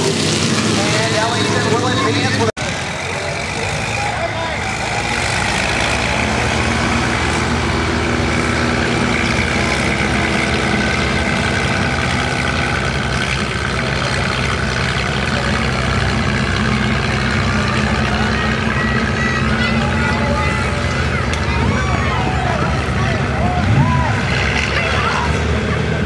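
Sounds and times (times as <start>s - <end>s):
truck engines idling: 0.0s - 26.0s.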